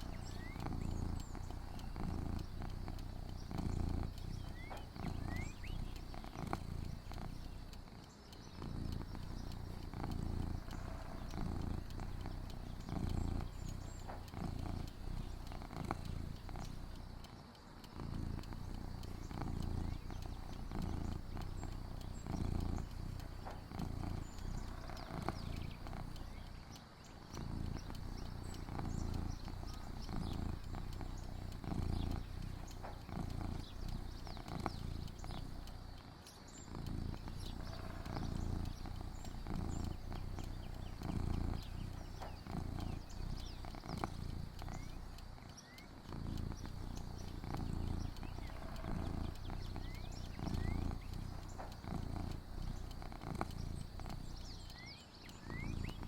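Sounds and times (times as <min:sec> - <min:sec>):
low pulsing rumble: 0:00.0 - 0:07.9, 0:08.7 - 0:17.3, 0:18.1 - 0:26.6, 0:27.5 - 0:36.0, 0:36.9 - 0:45.4, 0:46.0 - 0:54.9
steady high hum: 0:00.0 - 0:56.0.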